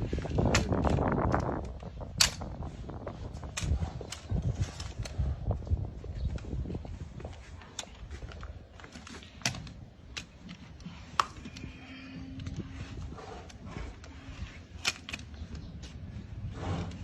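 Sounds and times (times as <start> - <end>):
hoof trimming clicks and knocks: 0.0 - 17.0.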